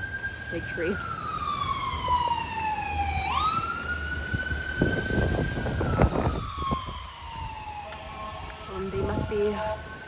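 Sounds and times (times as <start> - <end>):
siren wailing: 0.0 - 10.0.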